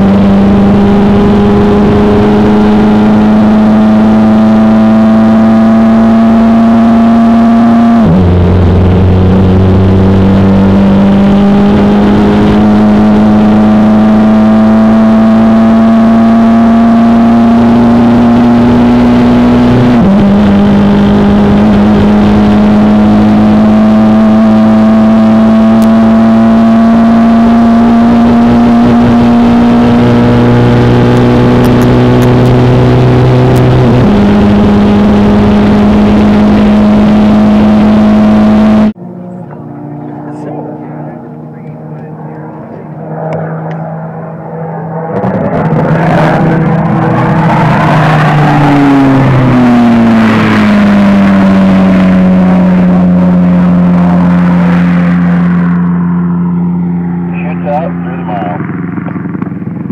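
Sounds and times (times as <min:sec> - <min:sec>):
motorcycle engine at full throttle: 0:00.0 - 0:59.9.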